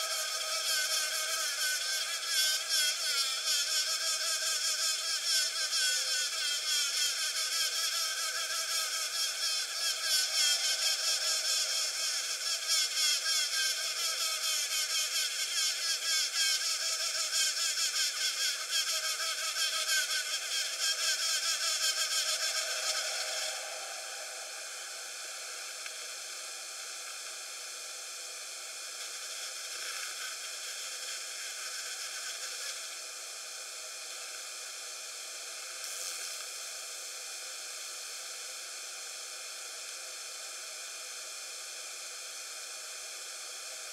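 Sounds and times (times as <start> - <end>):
wasp buzzing: 0.0 - 38.5
steady hiss: 0.0 - 43.9.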